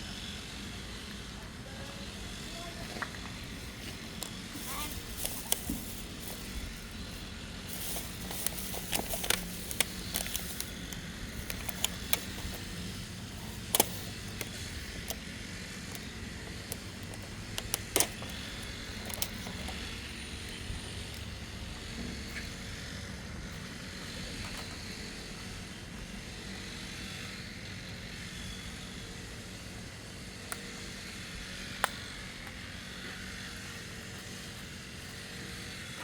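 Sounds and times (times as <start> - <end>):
lawn mower engine running: 0.4 - 36.0.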